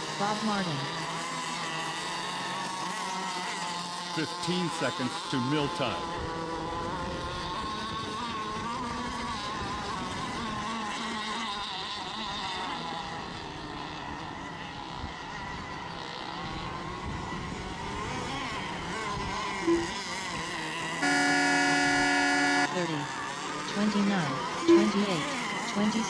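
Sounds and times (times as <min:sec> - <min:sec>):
model boat engines whining: 0:00.0 - 0:26.0.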